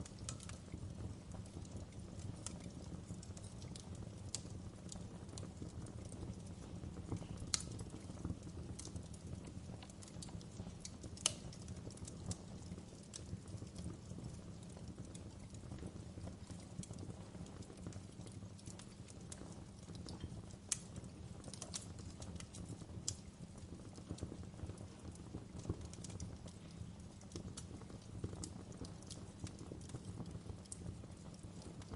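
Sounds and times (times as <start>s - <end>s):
low rumble of flames: 0.0s - 31.9s
wood fire crackling: 0.0s - 31.9s.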